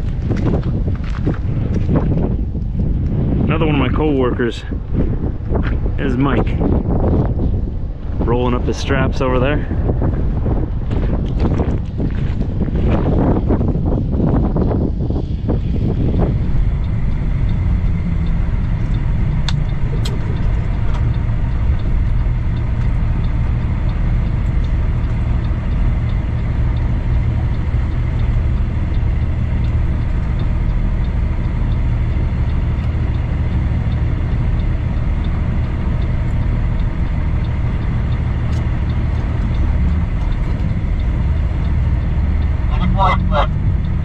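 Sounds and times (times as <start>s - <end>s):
truck diesel engine droning: 0.0s - 44.0s.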